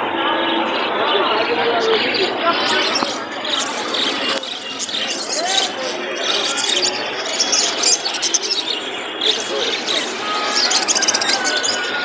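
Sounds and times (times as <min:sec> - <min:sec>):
busy market background noise: 0:00.0 - 0:12.0
caged birds chirping: 0:00.4 - 0:12.0.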